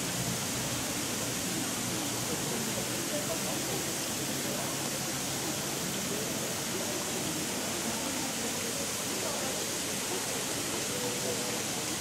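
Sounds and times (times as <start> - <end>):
faint murmur of voices: 0.0 - 12.0.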